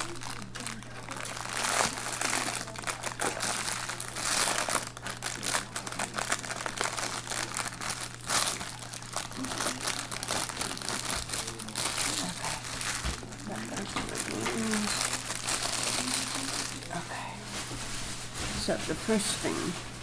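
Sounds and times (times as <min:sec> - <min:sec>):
plastic packaging crinkling: 0:00.0 - 0:19.2
steady low hum: 0:00.0 - 0:20.0.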